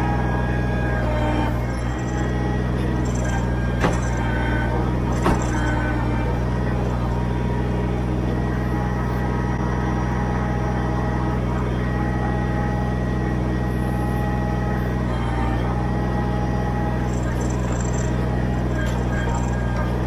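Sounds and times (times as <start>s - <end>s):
faint hydraulic whine: 0.0s - 20.0s
tractor diesel engine running: 0.0s - 20.0s.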